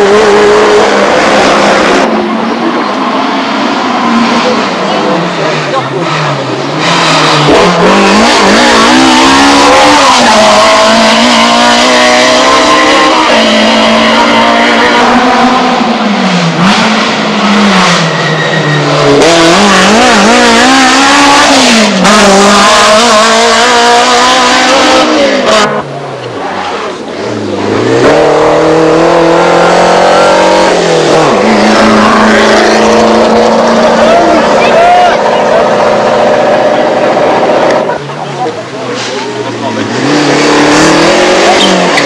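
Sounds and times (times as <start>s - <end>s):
racing car engine at full throttle: 0.0s - 42.0s.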